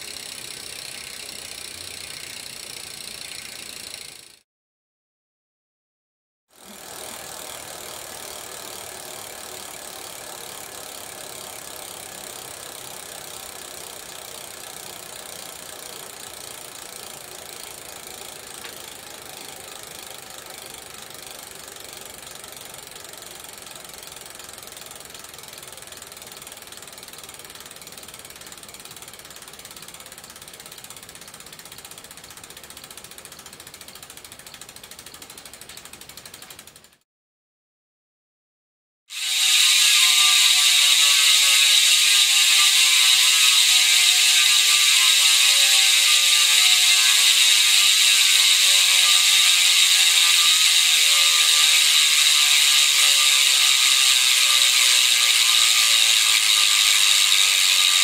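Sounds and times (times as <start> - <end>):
bicycle freehub clicking buzz: 0.0 - 4.5, 6.5 - 37.0, 39.1 - 58.0.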